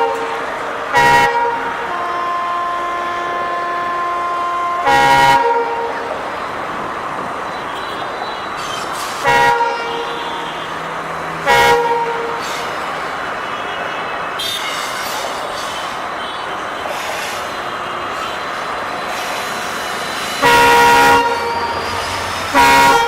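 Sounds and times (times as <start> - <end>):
locomotive horn blasts: 0.0 - 6.1, 7.5 - 23.0
moving train noise: 0.0 - 23.0.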